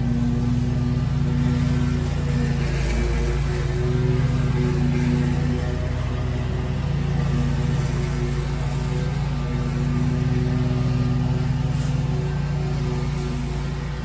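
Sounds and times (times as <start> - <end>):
lawn mower engine running: 0.0 - 14.0
mower cutting long grass: 0.0 - 14.0.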